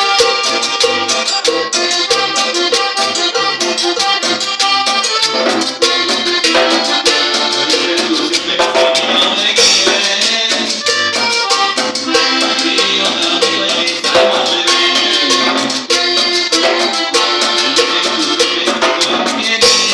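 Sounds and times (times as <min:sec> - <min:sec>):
accordion melody: 0:00.0 - 0:19.9
steady drum beat: 0:00.0 - 0:19.9
stepping bass line: 0:00.0 - 0:19.9.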